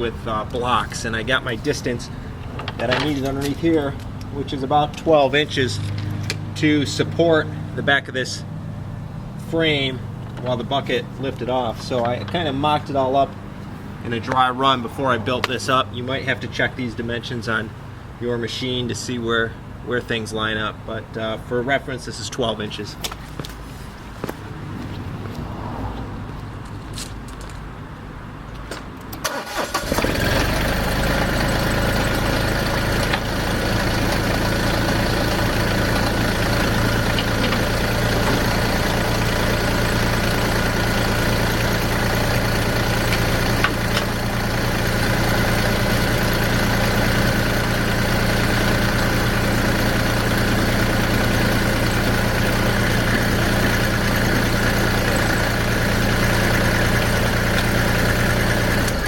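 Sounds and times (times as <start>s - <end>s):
tractor diesel engine cranking: 0.0s - 8.4s, 9.3s - 17.9s, 28.6s - 59.0s.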